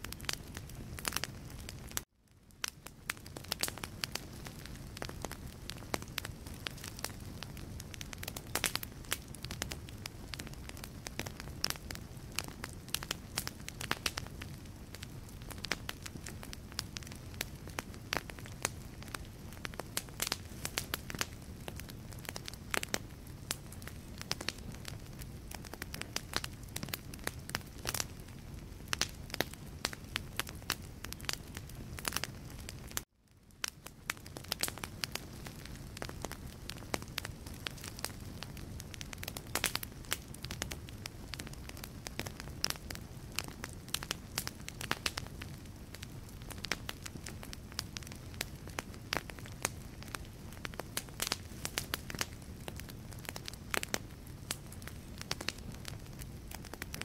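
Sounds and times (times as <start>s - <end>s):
low rumble of flame: 0.0s - 57.0s
wood fire crackling: 0.0s - 57.0s.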